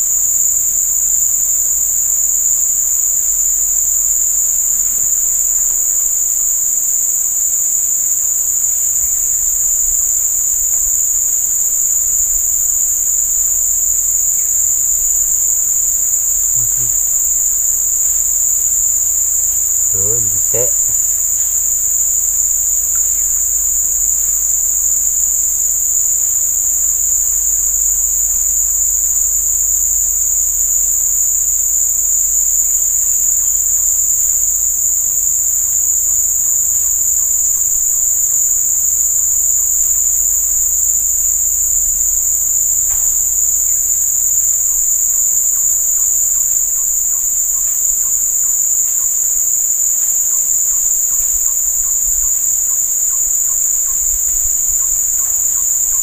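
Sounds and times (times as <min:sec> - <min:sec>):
high-pitched insect drone: 0:01.3 - 0:56.0.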